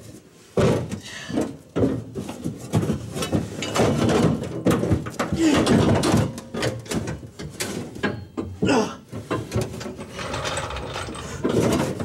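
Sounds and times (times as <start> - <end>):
metal clicks and knocks: 1.4 - 12.0.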